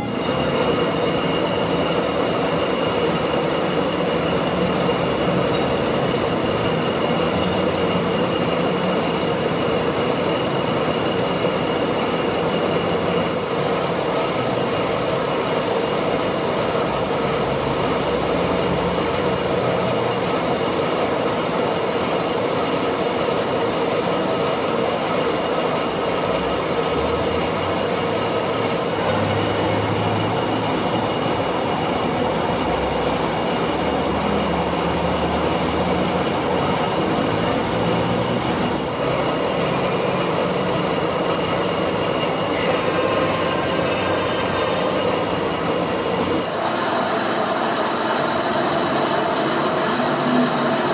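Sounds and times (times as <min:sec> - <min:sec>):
metal lathe whirring: 0:00.0 - 0:50.9.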